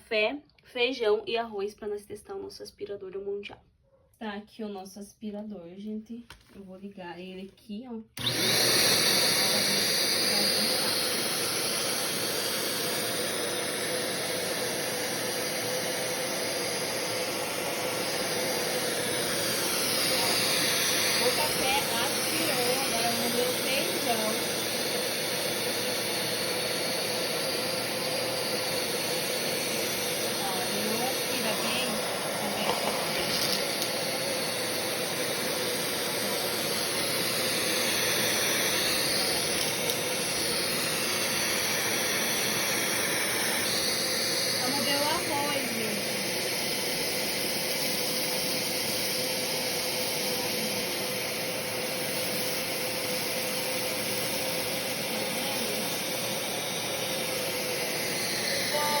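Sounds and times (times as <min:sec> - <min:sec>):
high vacuum whine: 0:08.2 - 0:59.0
vacuum cleaner running: 0:08.2 - 0:59.0.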